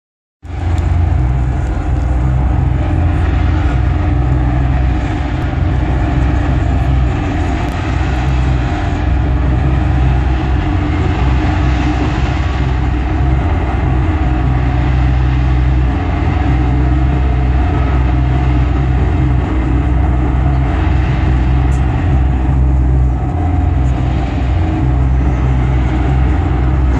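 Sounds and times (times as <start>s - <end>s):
booming bass: 0.4s - 26.9s.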